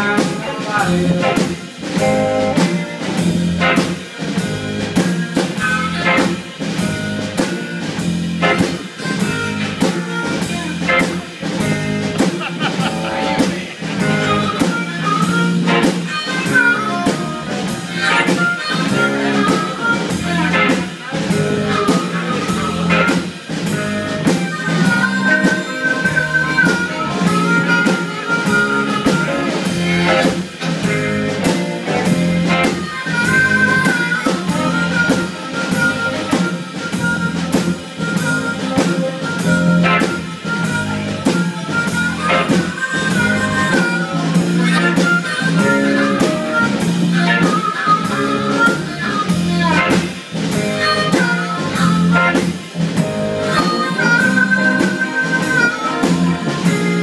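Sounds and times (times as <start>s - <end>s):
electric blues band playing: 0.0s - 57.0s
harmonica: 0.0s - 57.0s.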